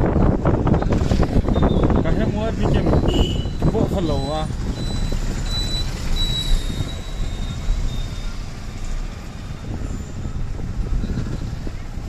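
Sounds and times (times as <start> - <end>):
vehicle road and engine rumble: 0.0 - 12.0.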